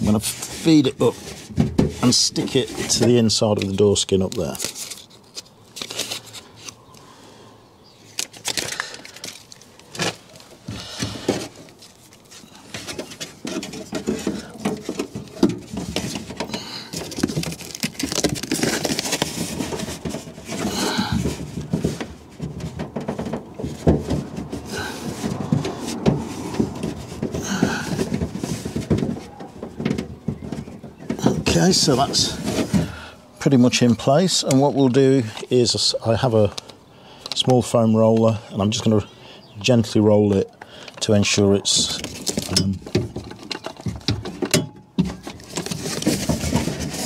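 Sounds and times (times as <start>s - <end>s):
hand rustling and scraping pad: 0.0s - 7.1s, 8.0s - 36.6s, 39.6s - 47.0s.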